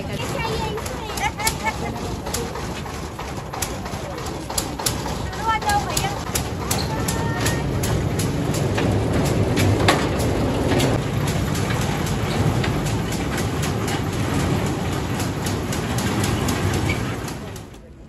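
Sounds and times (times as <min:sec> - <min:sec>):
miniature train rumbling: 0:00.0 - 0:18.0
wheels clicking on rails: 0:00.0 - 0:18.0.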